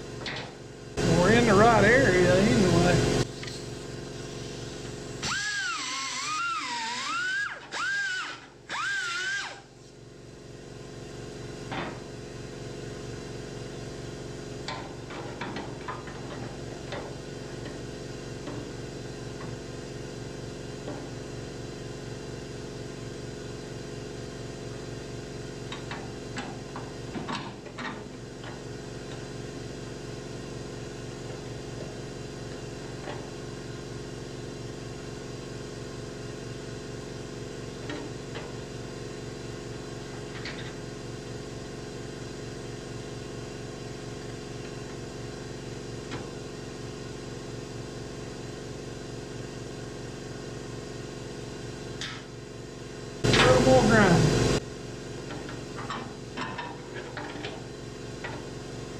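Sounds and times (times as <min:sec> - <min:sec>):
steady mechanical hum: 0:00.0 - 0:58.9.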